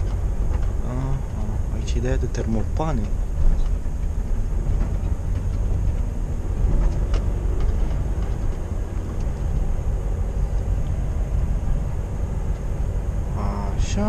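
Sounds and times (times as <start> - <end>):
light rattles and clicks: 0.0 - 14.0
truck diesel engine rumbling: 0.0 - 14.0.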